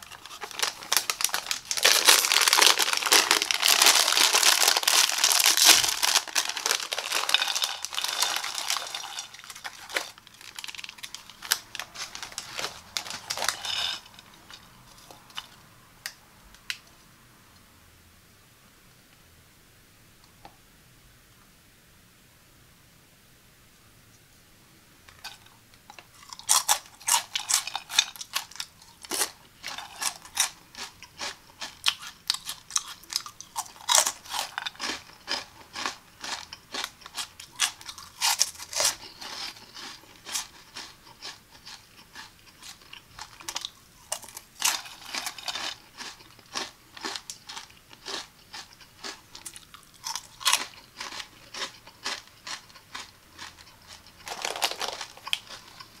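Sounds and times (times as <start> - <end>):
corn snacks crunching: 0.0 - 15.6, 25.2 - 56.0.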